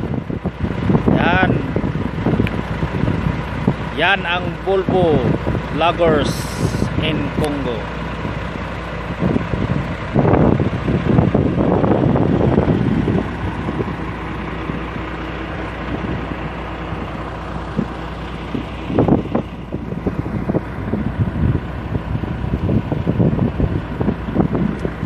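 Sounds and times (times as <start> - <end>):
diesel truck engine idling: 0.0 - 25.0
wind buffeting microphone: 0.0 - 25.0.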